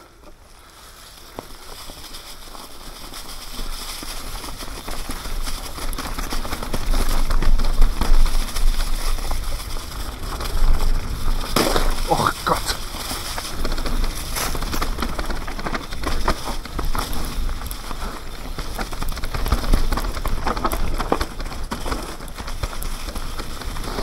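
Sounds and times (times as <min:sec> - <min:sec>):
bike tyres crackling over leaves: 0:00.0 - 0:24.0.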